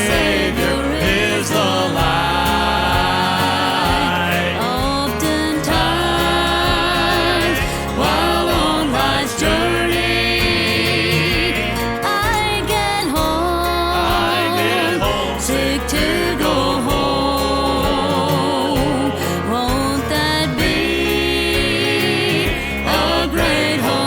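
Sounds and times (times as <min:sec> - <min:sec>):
gospel singing voices: 0:00.0 - 0:24.0
instrumental accompaniment: 0:00.0 - 0:24.0.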